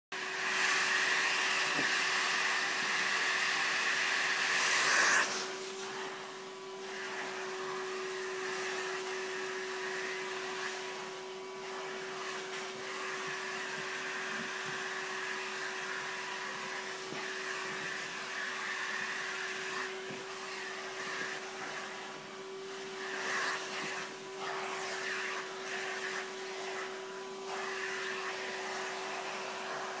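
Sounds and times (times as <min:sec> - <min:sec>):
vacuum cleaner running: 0:00.2 - 0:30.0.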